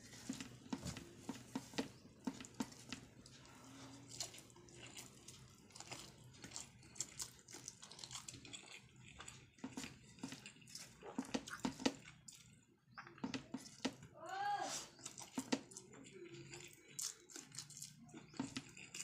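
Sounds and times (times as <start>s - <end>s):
wet chewing and lip-smacking: 0.0s - 14.1s, 14.8s - 19.0s.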